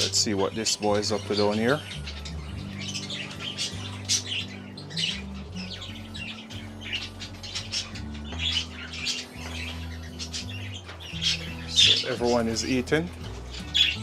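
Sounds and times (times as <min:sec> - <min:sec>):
background music: 0:00.0 - 0:14.0
parrots chirping and squawking: 0:00.0 - 0:14.0.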